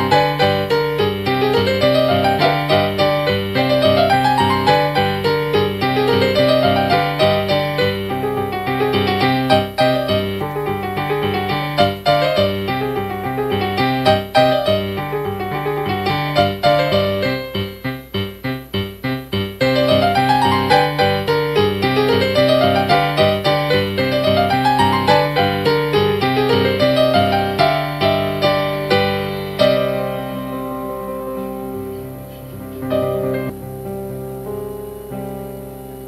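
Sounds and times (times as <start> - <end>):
lively solo piano: 0.0 - 36.0.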